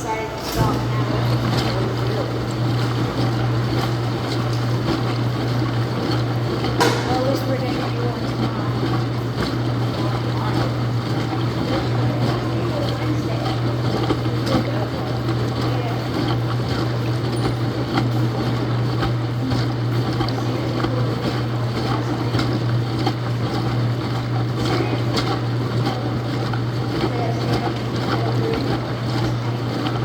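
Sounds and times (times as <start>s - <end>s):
washing machine running: 0.0s - 30.0s.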